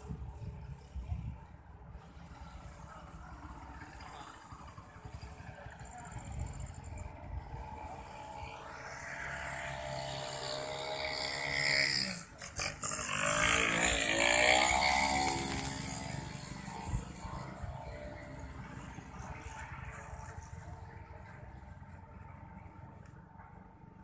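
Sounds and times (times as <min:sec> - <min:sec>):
motor vehicle passing: 0:02.0 - 0:23.8.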